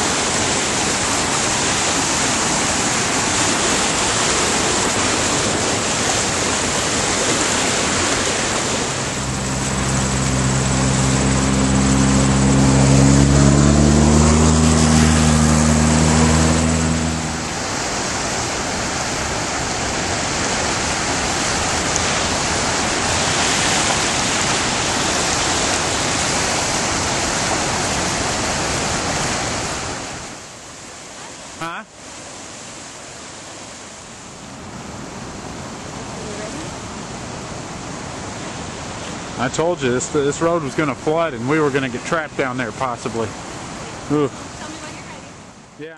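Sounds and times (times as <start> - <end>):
engine humming: 0.0 - 30.8, 34.4 - 45.8
flooded river rushing: 0.0 - 45.9.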